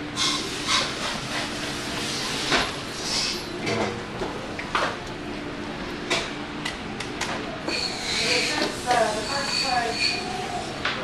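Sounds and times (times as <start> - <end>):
background hiss and hum: 0.0 - 11.0.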